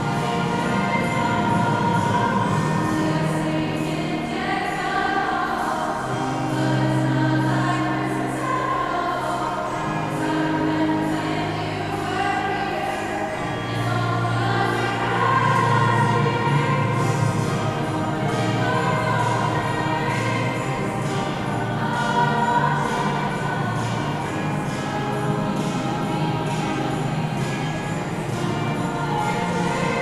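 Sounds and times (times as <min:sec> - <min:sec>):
girls' choir singing in harmony: 0:00.0 - 0:30.0.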